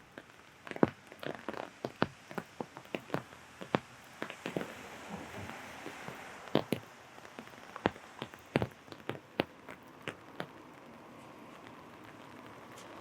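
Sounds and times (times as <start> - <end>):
rain hiss: 0.0 - 13.0
raindrops tapping on umbrella: 0.0 - 13.0.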